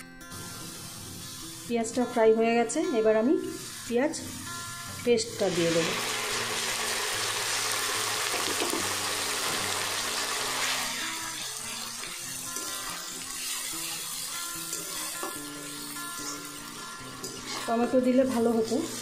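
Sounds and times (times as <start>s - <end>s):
background music: 0.0s - 19.0s
paste sizzling in hot oil: 0.4s - 2.2s, 3.4s - 19.0s.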